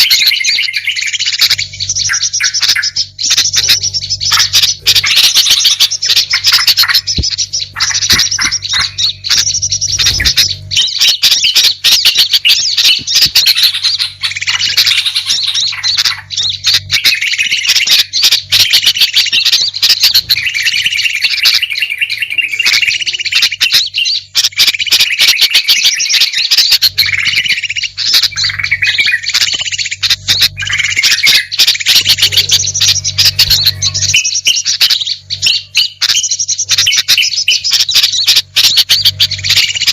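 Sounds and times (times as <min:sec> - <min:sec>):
low steady hum: 0:00.0 - 0:39.9
songbirds chirping and trilling: 0:00.0 - 0:39.9.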